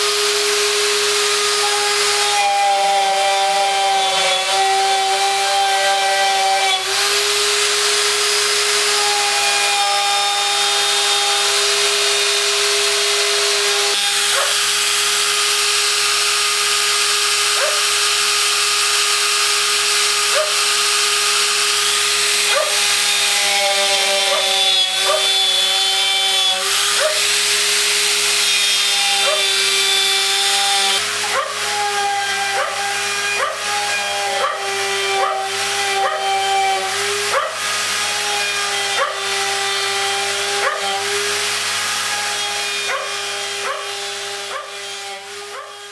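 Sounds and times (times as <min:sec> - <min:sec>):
milling spindle whine cutting wood: 0:00.0 - 0:45.9.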